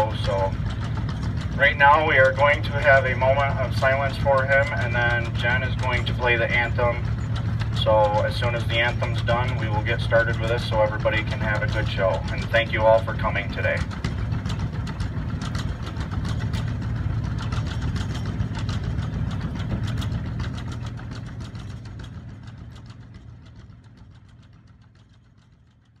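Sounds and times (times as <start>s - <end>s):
engine idling: 0.0s - 26.0s
engine ticking knock: 0.0s - 26.0s.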